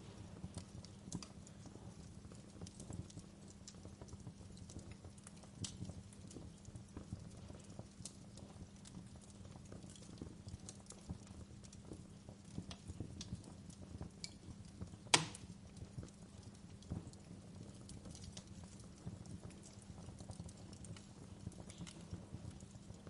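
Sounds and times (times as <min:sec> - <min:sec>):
low steady rumble: 0:00.0 - 0:23.0
soft rain hiss: 0:00.0 - 0:23.0
wood fire crackling: 0:00.0 - 0:23.0.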